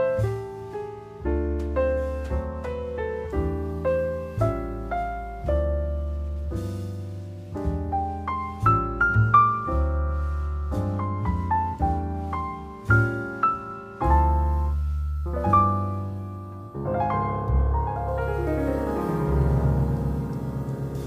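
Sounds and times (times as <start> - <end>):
slow piano music: 0.0 - 21.0.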